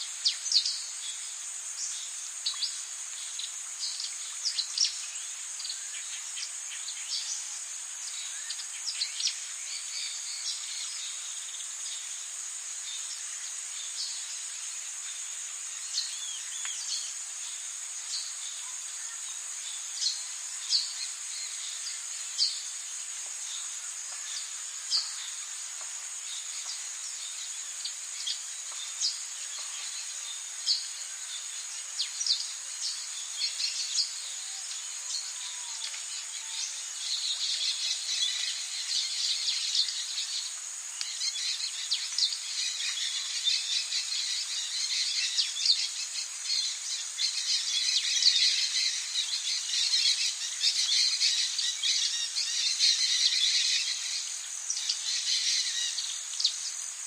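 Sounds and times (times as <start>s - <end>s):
bird and insect chirps: 0.0s - 57.0s
high-pitched insect drone: 0.0s - 57.0s.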